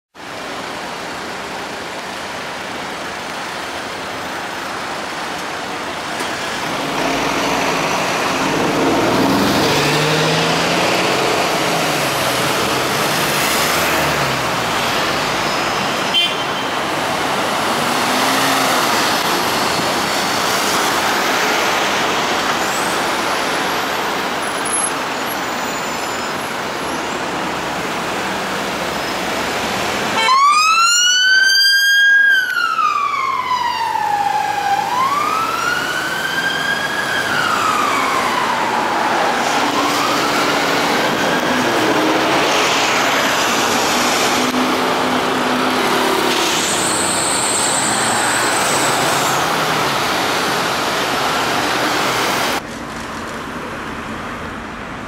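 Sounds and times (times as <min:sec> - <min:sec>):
traffic engines idling: 0:00.2 - 0:30.9, 0:32.6 - 0:55.0.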